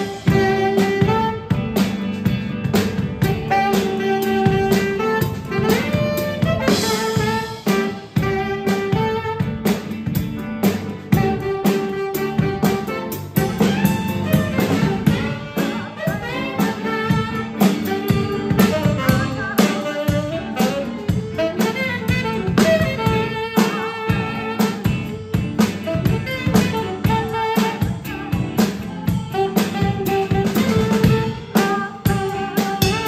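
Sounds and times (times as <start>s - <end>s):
drum kit beat: 0.0s - 33.0s
saxophone melody: 0.0s - 33.0s.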